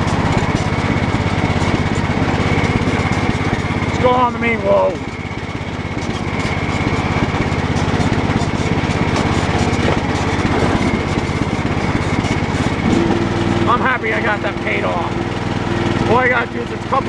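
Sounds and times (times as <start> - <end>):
lawn tractor engine running: 0.0 - 17.0
thin high whine: 0.0 - 17.0.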